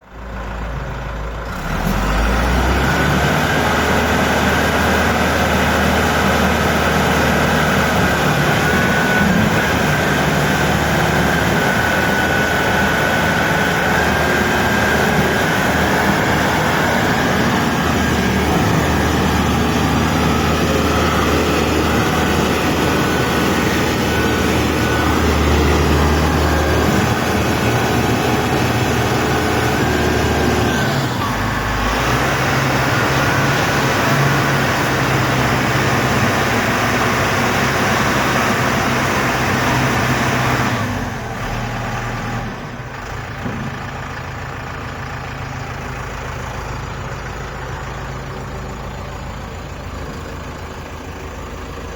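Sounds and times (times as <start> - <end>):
backhoe loader engine running: 0.0 - 51.9.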